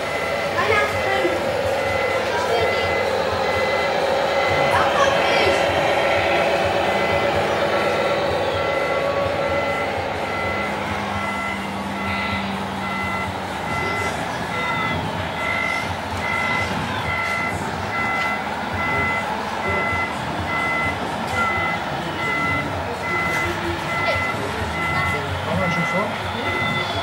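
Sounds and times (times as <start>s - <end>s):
model machine running noise: 0.0s - 27.0s
reversing alarm beeping: 0.0s - 27.0s.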